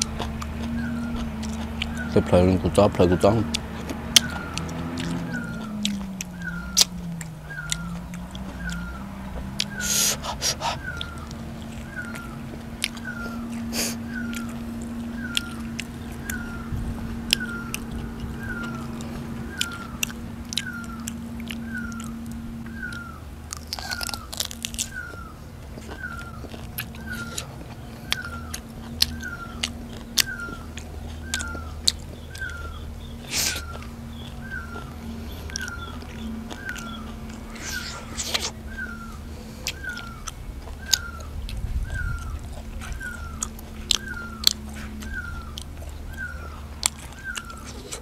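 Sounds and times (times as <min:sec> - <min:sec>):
chewing and crunching food: 0:00.0 - 0:48.0
low steady hum: 0:00.0 - 0:48.0
sharp biting clicks: 0:00.0 - 0:48.0
small high chirp: 0:04.1 - 0:48.0.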